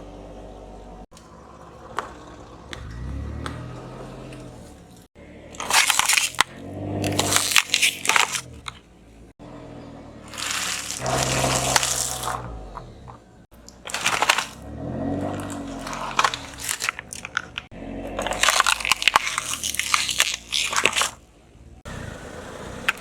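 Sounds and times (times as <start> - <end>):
tyre crushing crunchy objects: 1.1 - 8.9, 10.2 - 21.3.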